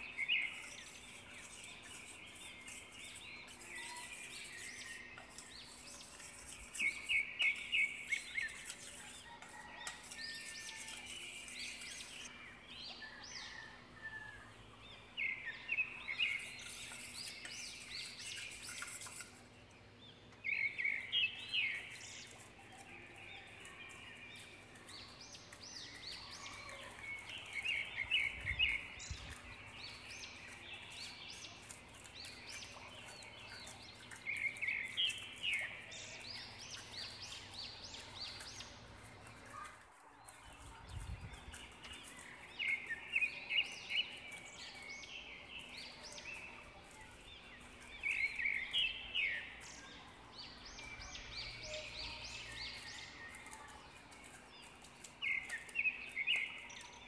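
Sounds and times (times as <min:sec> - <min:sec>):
bird chirping: 0:00.0 - 0:57.0.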